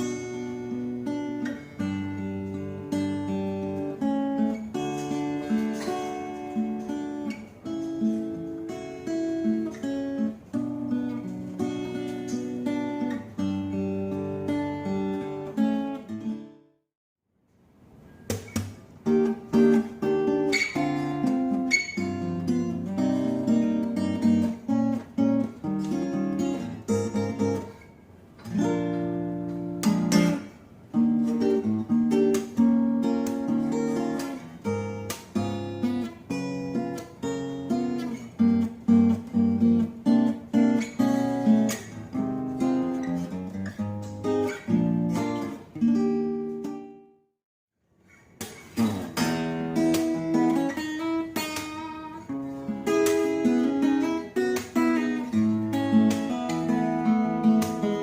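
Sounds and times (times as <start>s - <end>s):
acoustic guitar strummed chords: 0.0s - 16.6s, 18.1s - 47.2s, 48.4s - 58.0s.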